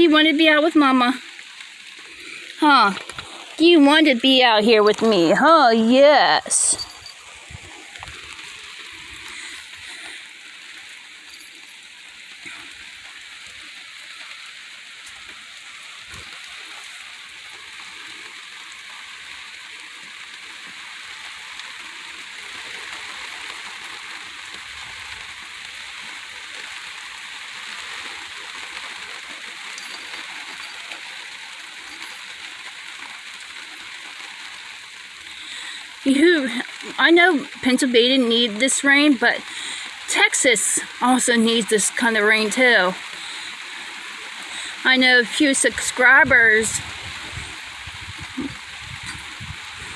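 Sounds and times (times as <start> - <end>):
soaking rain hiss: 0.0 - 49.9.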